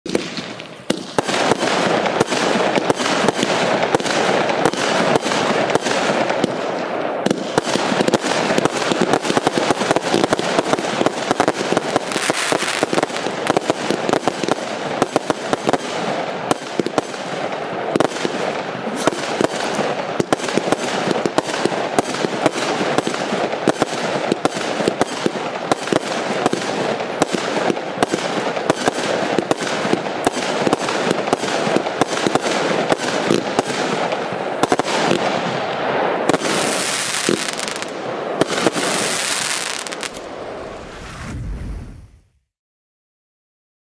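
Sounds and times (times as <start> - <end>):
fireworks launching and bursting: 0.1 - 42.5.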